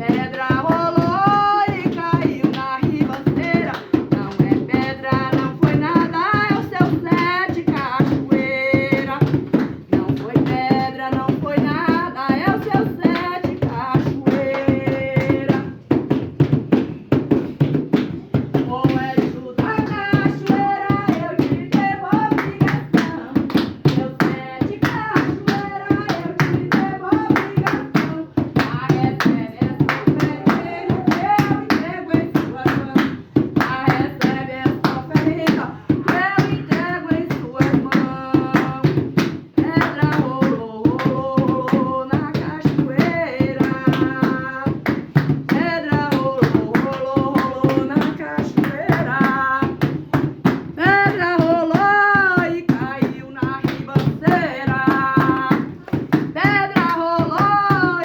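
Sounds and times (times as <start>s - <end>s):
devotional chant singing: 0.0s - 16.2s, 18.3s - 58.0s
fast hand clapping: 0.0s - 58.0s.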